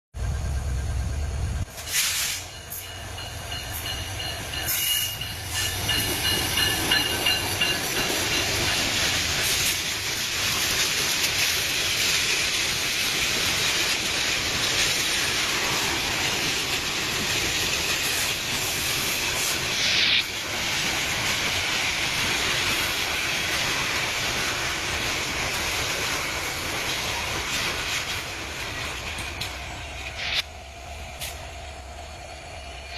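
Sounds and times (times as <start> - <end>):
train running on rails: 0.1 - 32.9.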